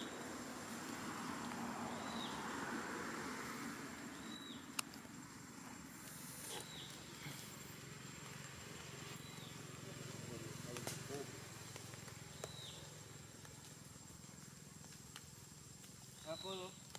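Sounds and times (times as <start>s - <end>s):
dry leaves rustling: 0.0s - 16.9s.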